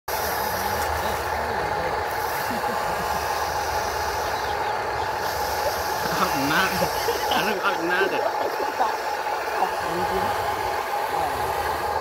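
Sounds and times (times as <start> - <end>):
small electric motors whirring: 0.1 - 12.0.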